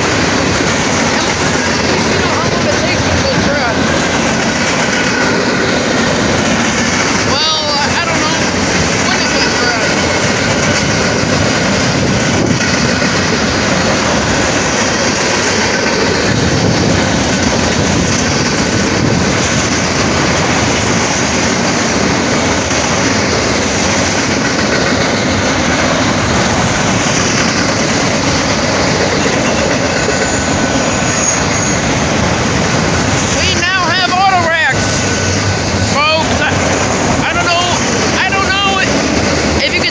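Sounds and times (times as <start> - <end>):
train clattering over rails: 0.0 - 39.9.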